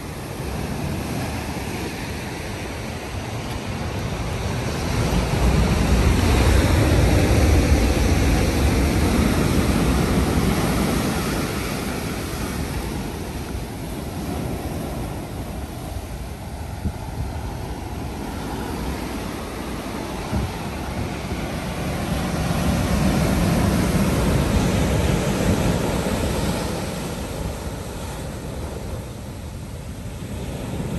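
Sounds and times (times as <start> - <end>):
ocean waves breaking on shore: 0.0 - 30.9.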